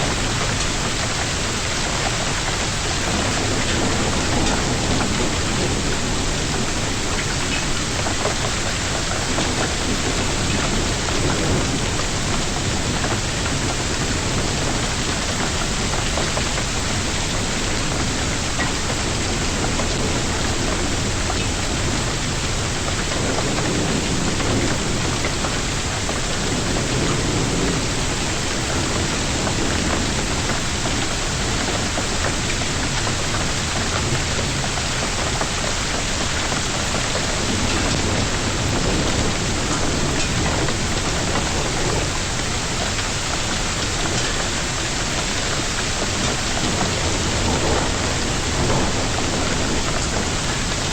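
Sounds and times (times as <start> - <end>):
hail and heavy rain pelting: 0.0 - 50.9.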